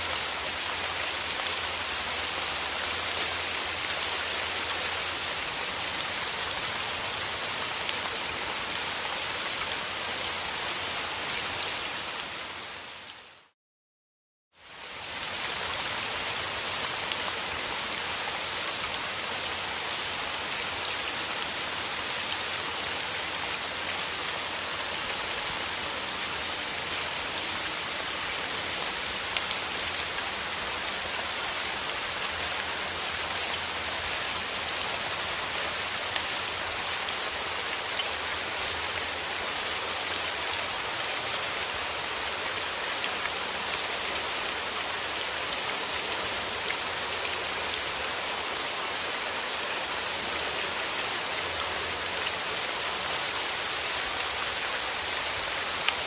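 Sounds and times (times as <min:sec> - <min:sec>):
steady rain falling: 0:00.0 - 0:13.6, 0:14.5 - 0:56.0.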